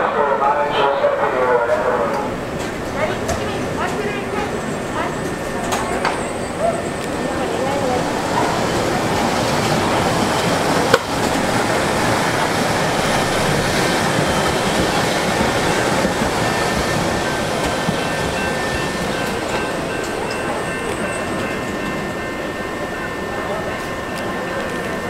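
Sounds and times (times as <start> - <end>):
train wheels rumbling on rails: 1.2 - 25.0.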